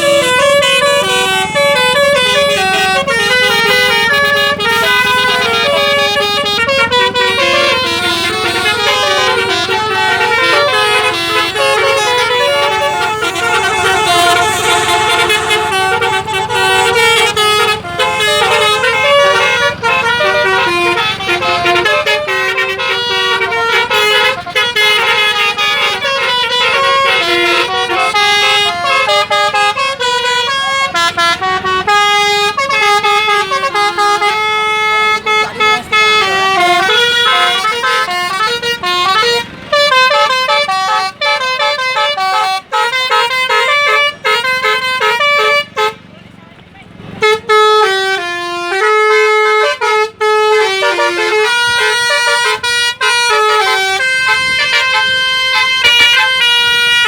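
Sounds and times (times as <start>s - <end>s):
musical bus horns playing tunes: 0.0s - 57.0s.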